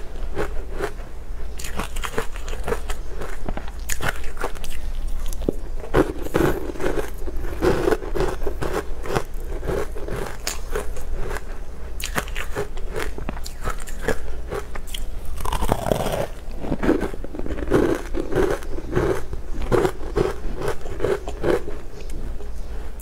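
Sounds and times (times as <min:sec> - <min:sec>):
chewing crunchy sweet: 0:00.0 - 0:22.7.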